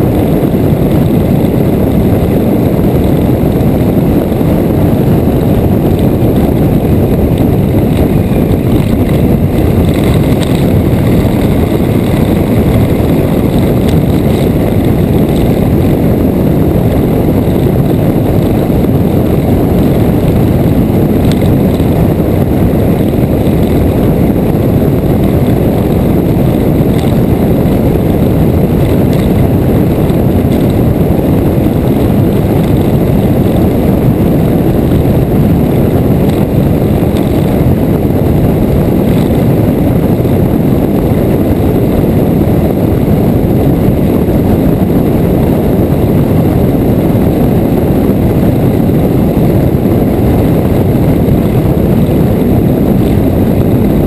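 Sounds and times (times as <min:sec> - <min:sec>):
motorcycle engine drone: 0:00.0 - 0:54.0
wind buffeting microphone: 0:00.0 - 0:54.0.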